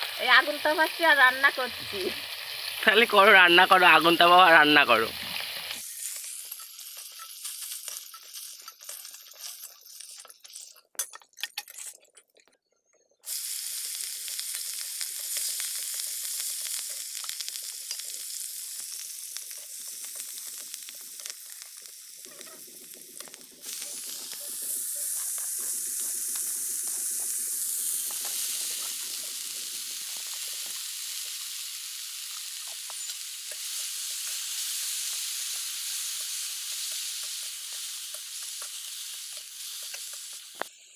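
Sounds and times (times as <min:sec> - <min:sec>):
fish sizzling in hot oil: 0:00.0 - 0:12.2, 0:13.2 - 0:40.9.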